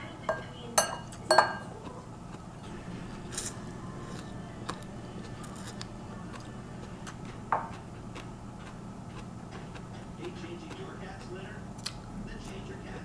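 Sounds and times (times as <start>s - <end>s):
low room hum: 0.0s - 13.0s
chewing and eating: 1.0s - 13.0s.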